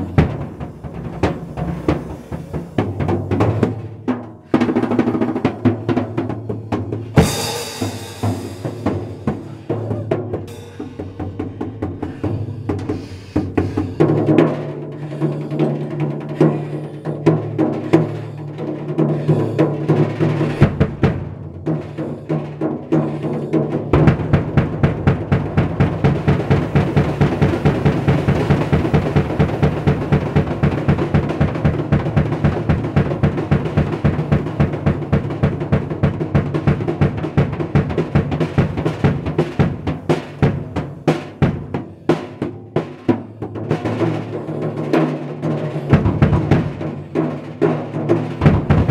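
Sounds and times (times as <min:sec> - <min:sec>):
fast double bass drum beats: 0:00.0 - 0:48.9
hands slapping drum toms: 0:00.0 - 0:48.9.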